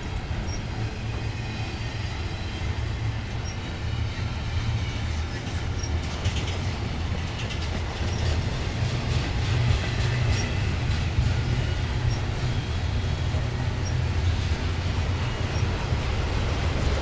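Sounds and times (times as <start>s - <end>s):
wheels squeaking: 0.0s - 15.8s
train wheels rumbling on rail: 0.0s - 17.0s.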